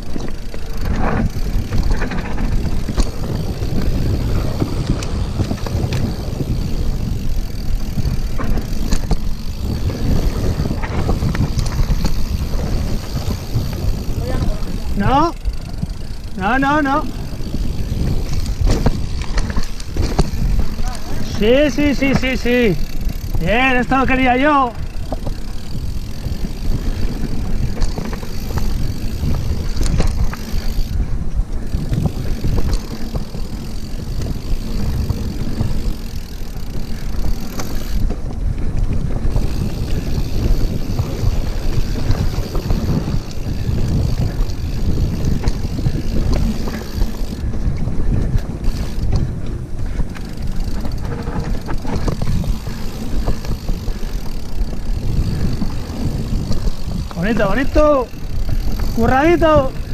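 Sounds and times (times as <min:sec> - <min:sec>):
bike knocking and rattling: 0:00.0 - 0:59.9
tyres rolling on dirt: 0:00.0 - 0:59.9
wind noise on microphone: 0:00.0 - 0:59.9.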